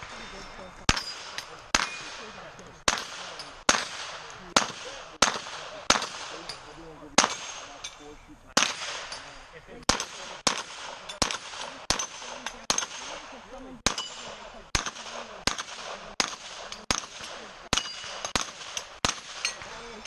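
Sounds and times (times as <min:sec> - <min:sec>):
gunshots: 0:00.0 - 0:20.0
metallic ring of steel targets: 0:00.0 - 0:20.0.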